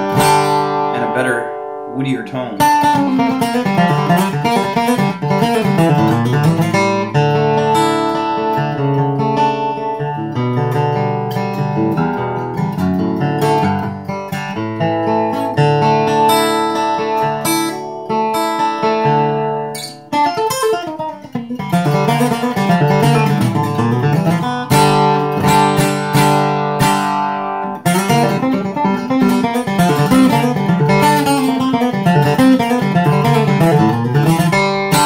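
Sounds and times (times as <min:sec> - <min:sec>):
acoustic guitar flatpicking: 0:00.0 - 0:35.0.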